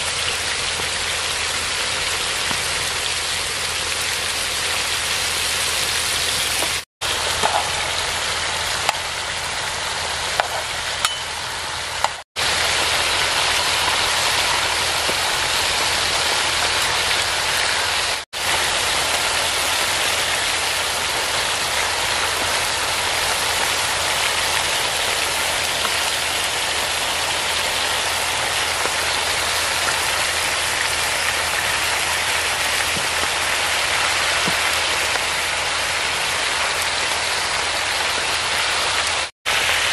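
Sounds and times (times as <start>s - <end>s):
patties sizzling on a griddle: 0.0s - 39.9s.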